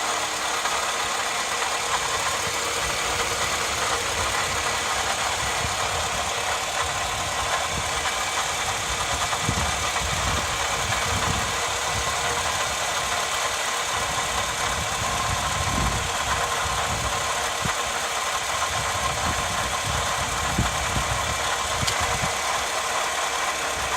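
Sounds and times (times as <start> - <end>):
car engine idling: 0.0 - 23.9
constant whine: 0.0 - 23.9.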